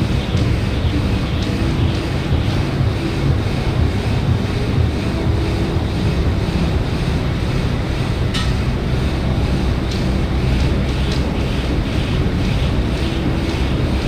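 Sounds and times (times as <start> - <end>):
air bike fan whooshing: 0.0 - 14.0.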